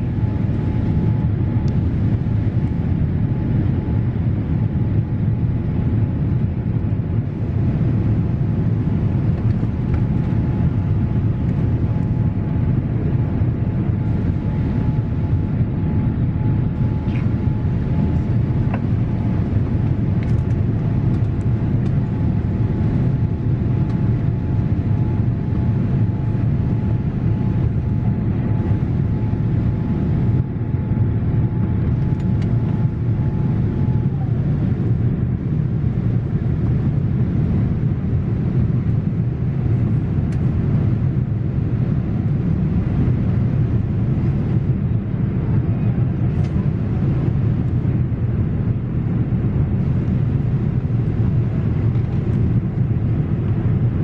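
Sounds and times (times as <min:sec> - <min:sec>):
airliner cabin roar: 0:00.0 - 0:54.0
faint steady whine: 0:00.0 - 0:54.0.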